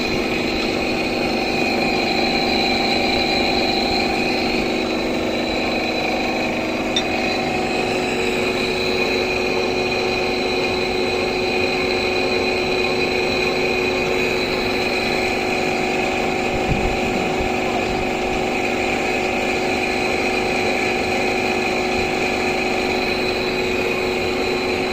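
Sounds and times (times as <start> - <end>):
machine tool hum and whine: 0.0 - 24.9.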